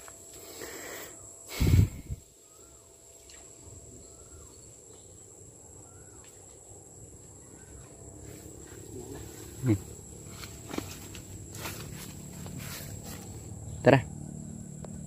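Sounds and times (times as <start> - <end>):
high insect whine: 0.0 - 15.0.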